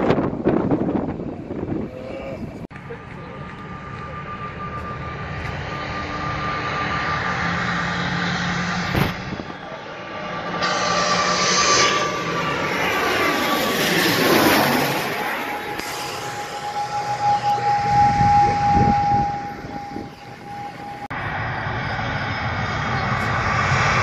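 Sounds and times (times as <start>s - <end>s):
jet airliner flying overhead: 0.0s - 24.0s.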